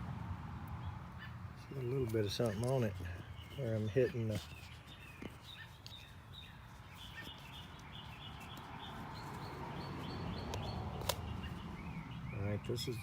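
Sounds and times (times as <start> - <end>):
small birds chirping: 0.7 - 13.0.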